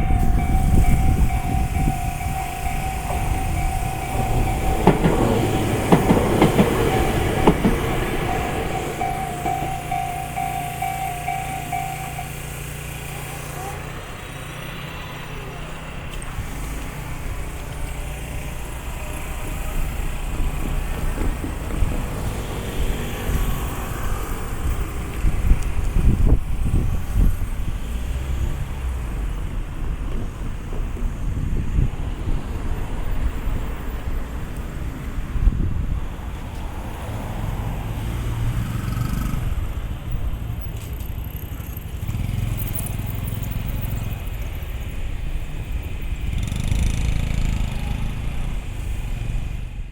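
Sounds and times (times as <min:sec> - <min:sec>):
passing vehicle rumble: 0:00.0 - 0:49.9.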